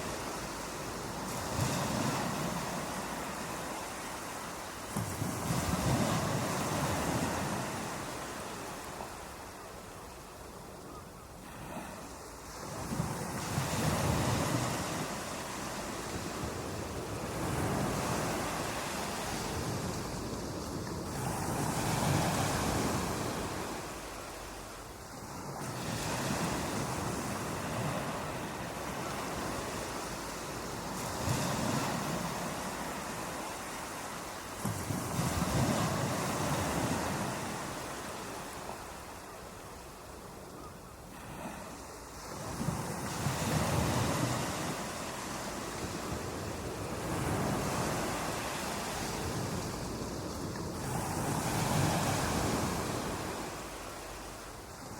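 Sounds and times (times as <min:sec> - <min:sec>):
ocean waves breaking: 0:00.0 - 0:09.6, 0:11.4 - 0:39.3, 0:41.0 - 0:54.9.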